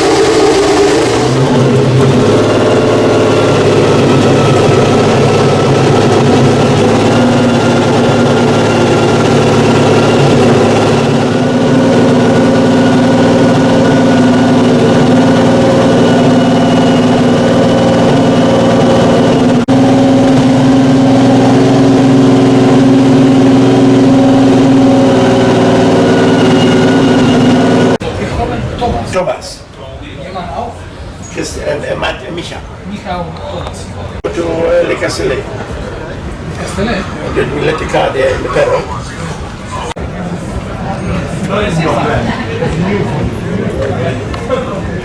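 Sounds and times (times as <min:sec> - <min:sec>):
racing car engine idling: 0:00.0 - 0:45.0.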